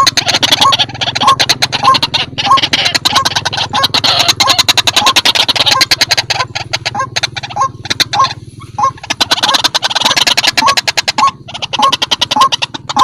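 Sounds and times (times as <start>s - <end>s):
bird calling harsh notes: 0.0s - 13.0s.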